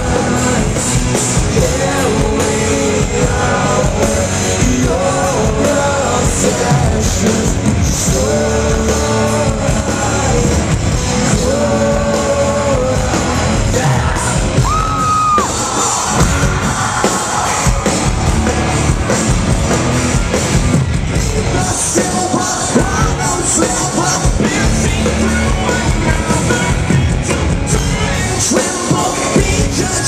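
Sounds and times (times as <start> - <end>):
distorted electric guitars: 0.0 - 30.0
drums: 0.0 - 30.0.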